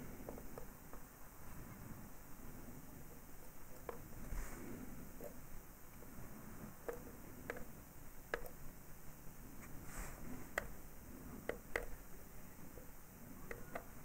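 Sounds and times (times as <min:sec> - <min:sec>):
faint handling noise: 0:00.0 - 0:14.0.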